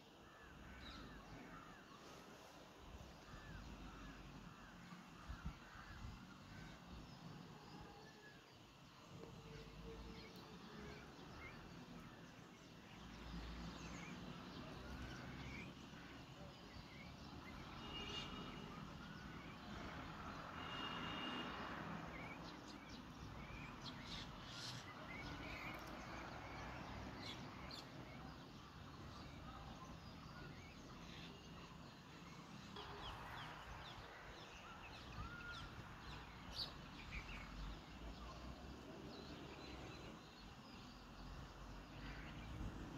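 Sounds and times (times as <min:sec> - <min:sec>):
soft outdoor hiss: 0:00.0 - 0:42.9.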